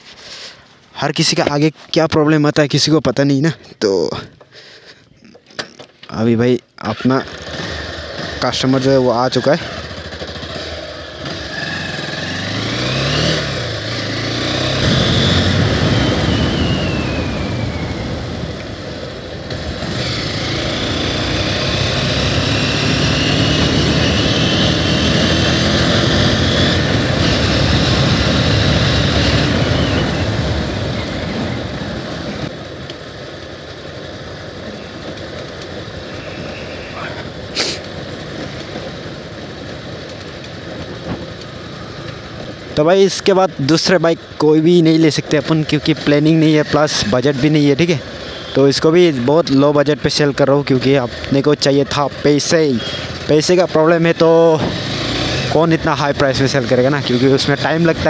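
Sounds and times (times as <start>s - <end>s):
motorcycle engine revving: 7.0s - 58.0s.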